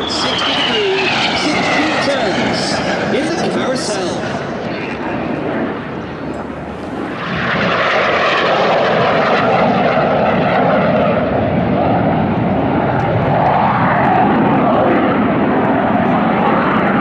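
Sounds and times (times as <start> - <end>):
jet engines passing overhead: 0.0 - 17.0
wavering whine: 0.0 - 17.0.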